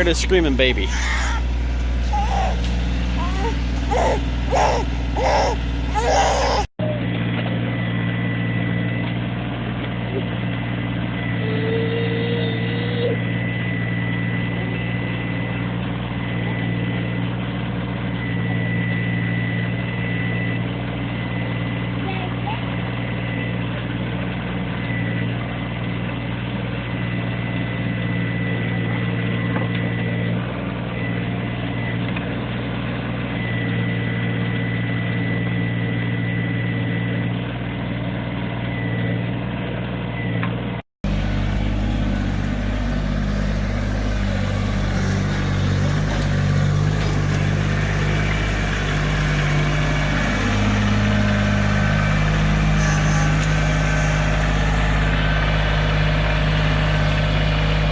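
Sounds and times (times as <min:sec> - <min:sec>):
backhoe diesel engine running: 0:00.0 - 0:57.9.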